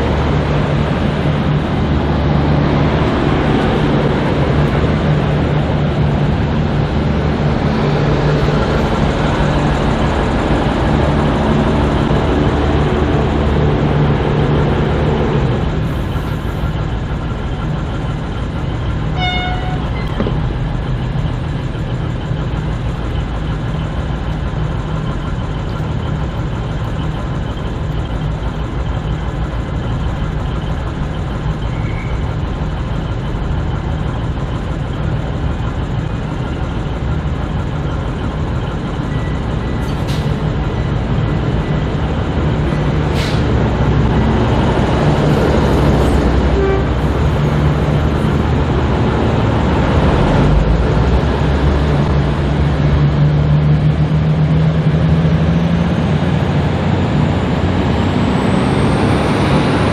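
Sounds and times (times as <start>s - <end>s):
diesel train engine running: 0.0s - 59.9s
train rumble: 0.0s - 59.9s.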